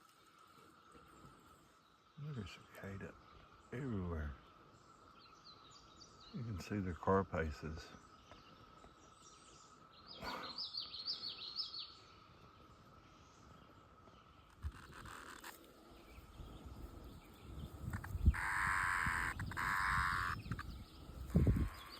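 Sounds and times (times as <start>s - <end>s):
cicadas buzzing drone: 0.0s - 21.9s
bird chirping: 0.9s - 21.9s.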